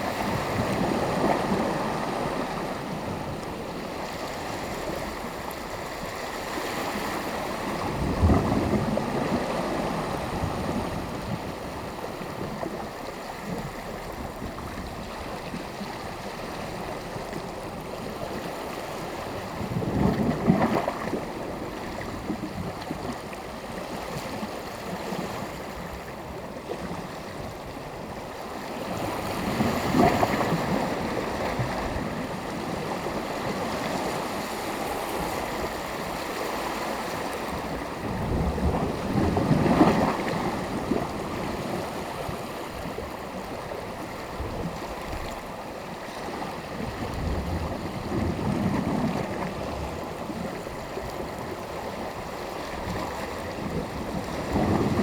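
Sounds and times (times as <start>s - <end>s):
small waves washing on shore: 0.0s - 55.0s
wind on microphone: 6.8s - 55.0s.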